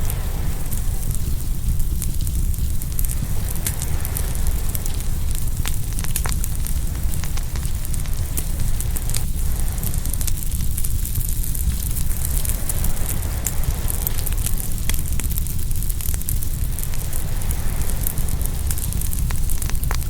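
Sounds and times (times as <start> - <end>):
low rumble: 0.0 - 20.0
wood fire crackling and popping: 0.0 - 20.0.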